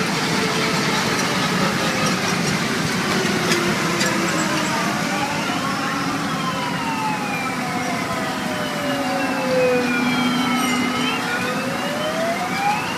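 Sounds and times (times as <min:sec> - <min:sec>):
wailing siren: 0:00.0 - 0:12.9.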